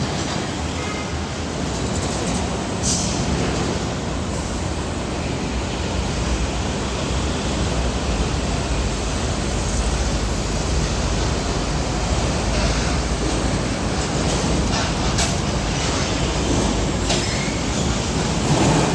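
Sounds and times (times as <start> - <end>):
truck engines rumbling: 0.0 - 18.9
tyres on the road: 0.0 - 18.9.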